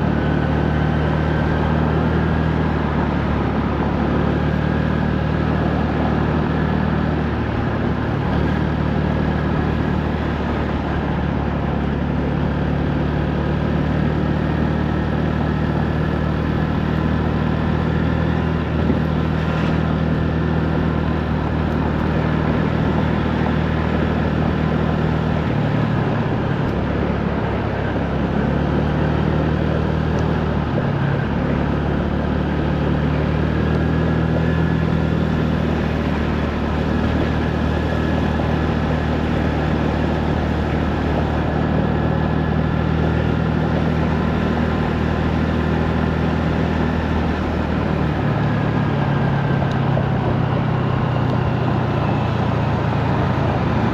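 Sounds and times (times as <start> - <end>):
small motorbike engine running: 0.0 - 53.9
steady rushing noise: 0.0 - 53.9.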